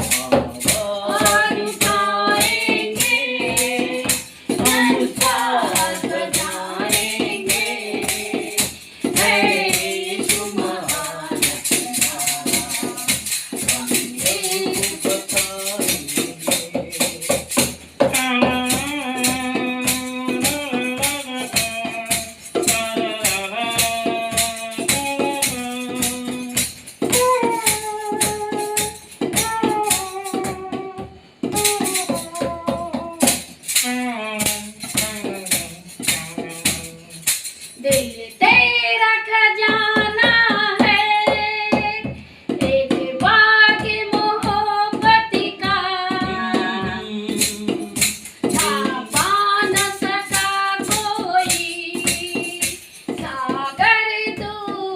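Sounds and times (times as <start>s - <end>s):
quick percussion beat: 0.0s - 54.9s.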